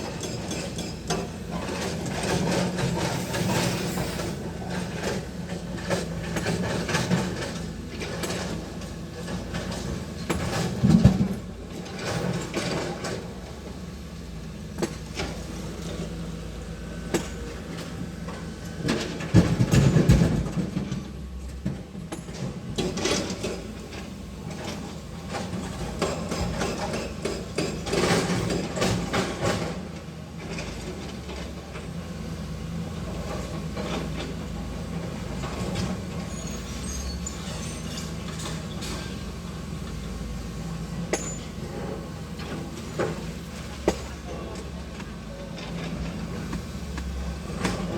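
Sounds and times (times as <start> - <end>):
digging machine engine running: 0.0 - 47.9.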